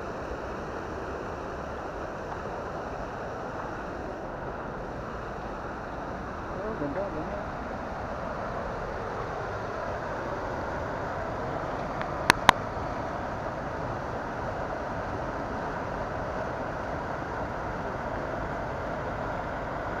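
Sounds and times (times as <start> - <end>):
stream water rushing over weir: 0.0 - 20.0.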